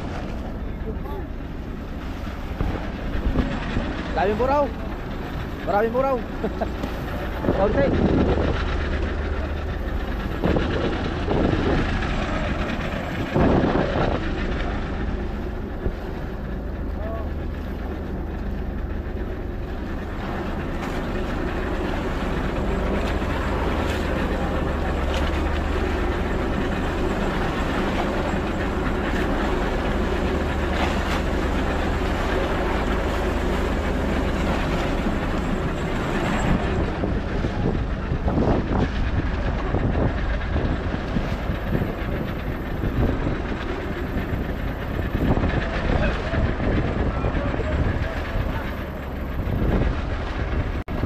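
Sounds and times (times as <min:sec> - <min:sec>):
boat engine running: 0:00.0 - 0:51.0
water noise: 0:00.0 - 0:51.0
wind: 0:00.0 - 0:51.0.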